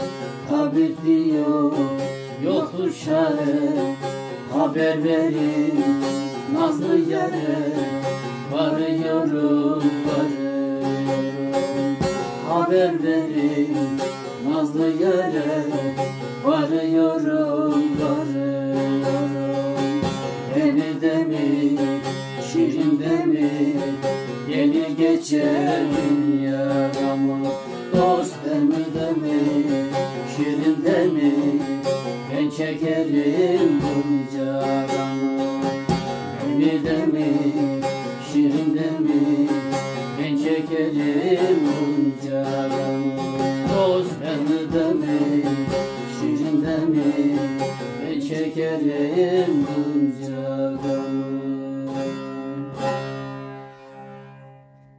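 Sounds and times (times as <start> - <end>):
long-necked lute folk melody: 0.0 - 54.9.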